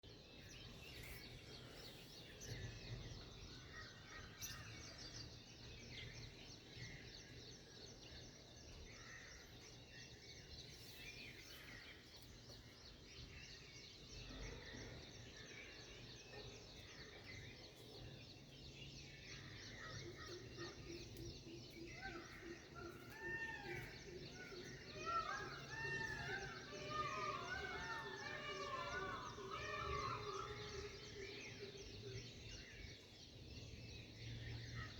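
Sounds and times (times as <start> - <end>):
birds chirping and singing: 0.0 - 34.9
close bird with arching notes: 0.0 - 34.9.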